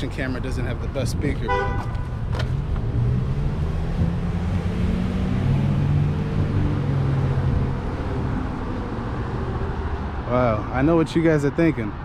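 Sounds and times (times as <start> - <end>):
low steady traffic rumble: 0.0 - 12.0.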